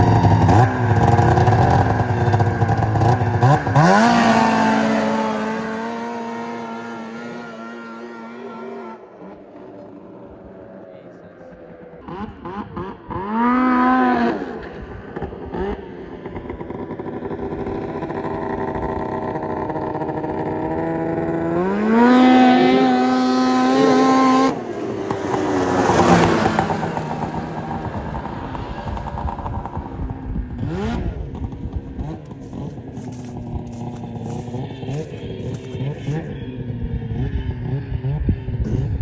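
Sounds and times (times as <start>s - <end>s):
snowmobile engine revving: 0.0s - 39.0s.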